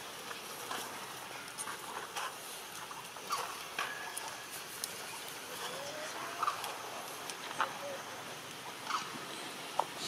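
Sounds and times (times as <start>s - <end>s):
faint outdoor background: 0.0s - 10.0s
soft animal calls: 1.6s - 10.0s.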